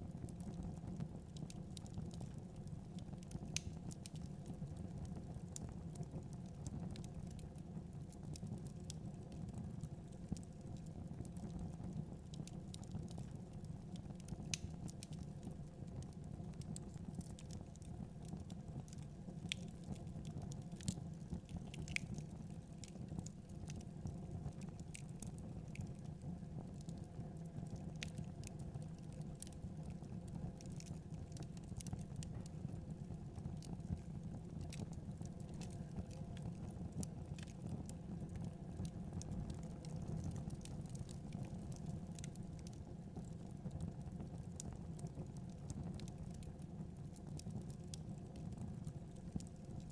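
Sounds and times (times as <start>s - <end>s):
wood fire crackling and popping: 0.1s - 49.9s.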